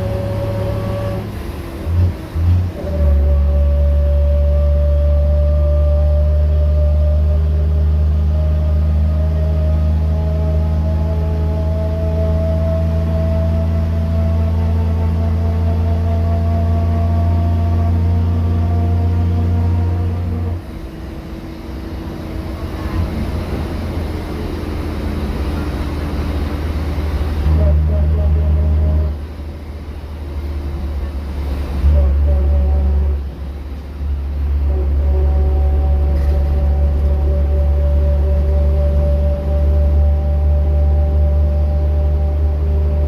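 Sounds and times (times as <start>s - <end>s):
bus engine drone: 0.0s - 43.0s
differential whine: 0.0s - 43.0s
road rumble: 0.0s - 43.0s.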